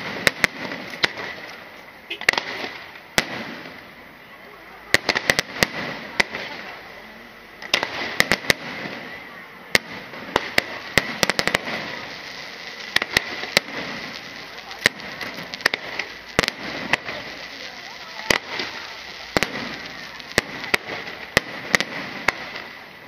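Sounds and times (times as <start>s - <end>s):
fireworks bangs and cracks: 0.0s - 23.0s
fireworks crackling hiss: 0.0s - 23.0s.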